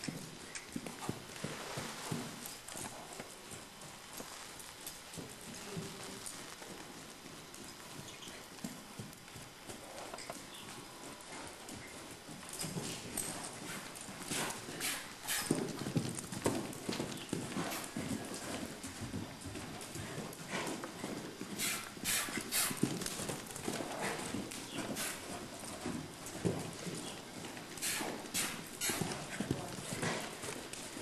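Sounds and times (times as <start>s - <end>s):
horse hoofbeats on soft dirt: 0.0s - 31.0s.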